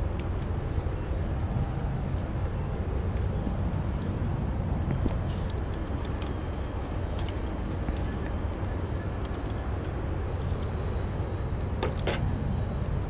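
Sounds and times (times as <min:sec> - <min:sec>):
light clicks from rope gear: 0:00.0 - 0:12.2
city noise: 0:00.0 - 0:13.0
low rumble of wind: 0:00.0 - 0:13.0.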